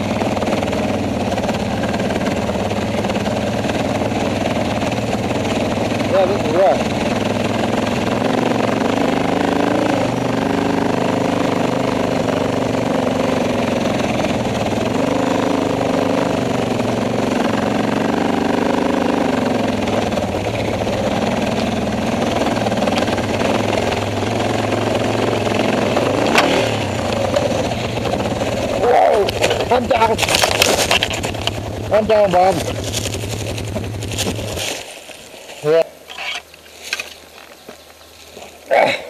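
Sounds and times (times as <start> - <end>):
motorcycle engine revving: 0.0 - 37.6.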